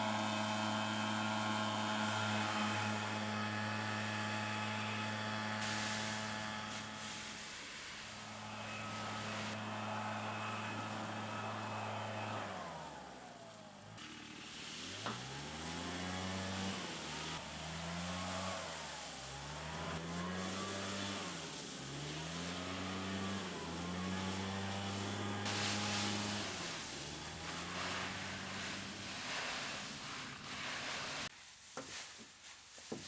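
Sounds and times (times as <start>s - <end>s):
vehicle engine running and revving: 0.0s - 7.2s, 8.2s - 30.5s.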